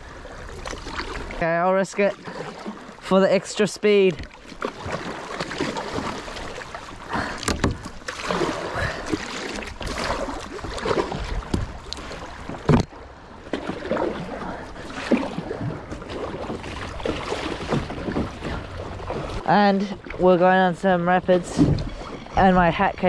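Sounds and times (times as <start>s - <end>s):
paddle blades splashing in water: 0.3s - 23.0s.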